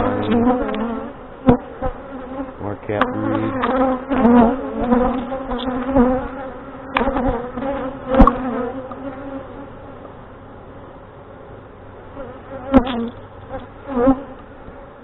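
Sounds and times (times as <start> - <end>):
bees buzzing loudly: 0.0 - 10.0, 12.1 - 15.0.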